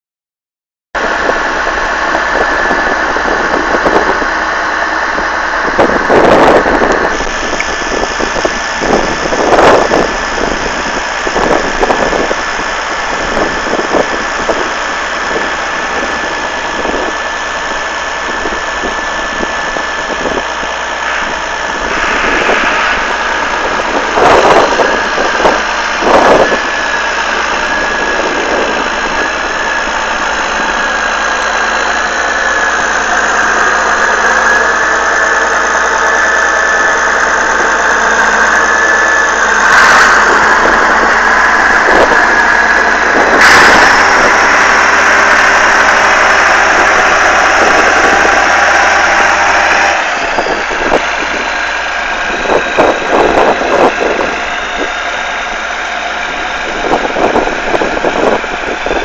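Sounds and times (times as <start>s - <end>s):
engine running: 1.0s - 59.0s.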